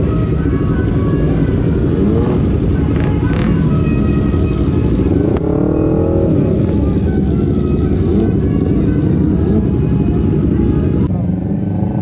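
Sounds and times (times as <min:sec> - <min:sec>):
motorcycle engine revving: 0:00.0 - 0:12.0
motorcycle engines idling: 0:00.0 - 0:12.0.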